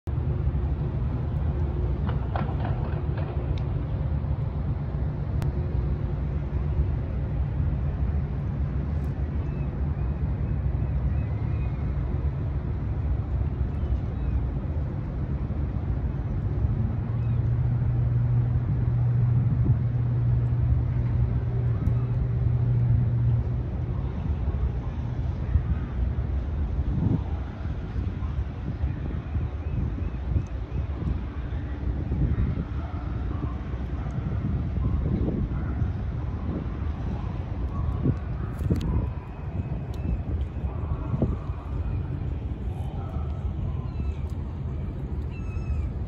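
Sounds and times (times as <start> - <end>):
ferry engines droning: 0.1 - 46.0.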